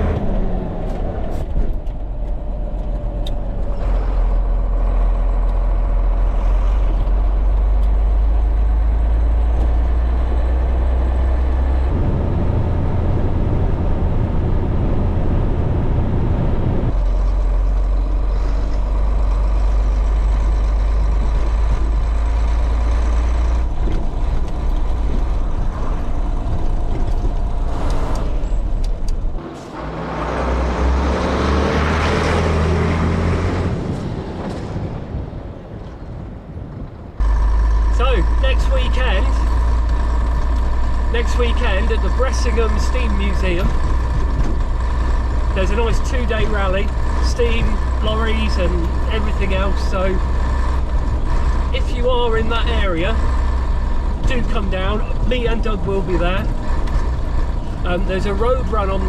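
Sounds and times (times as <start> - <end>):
diesel lorry engine drone: 0.0 - 59.0.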